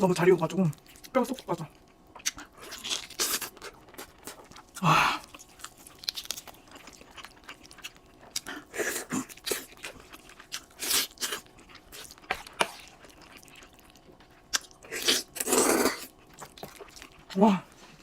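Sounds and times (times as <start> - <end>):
crunchy bites and chewing: 0.8 - 17.4.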